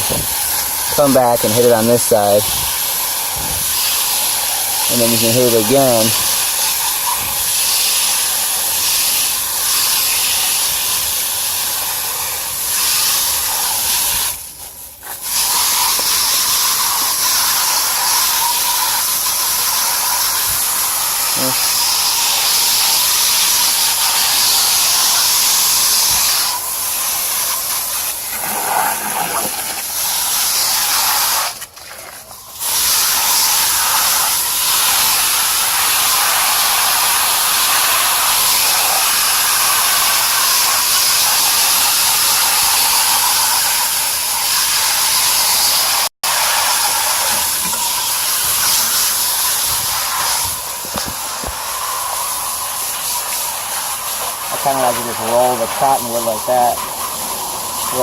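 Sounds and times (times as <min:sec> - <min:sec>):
garden hose spraying water: 0:00.0 - 0:58.0.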